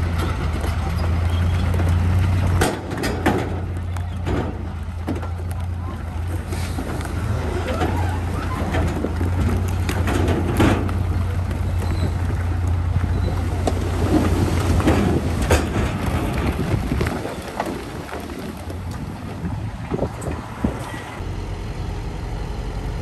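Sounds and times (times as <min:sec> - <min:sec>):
clanks and rattles: 0:00.0 - 0:21.2
heavy machine engine droning: 0:00.0 - 0:23.0.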